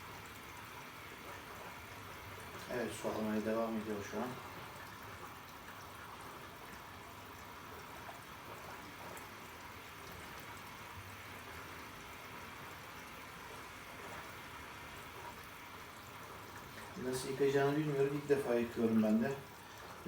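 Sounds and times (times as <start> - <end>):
water running into washing machine: 0.0 - 20.0.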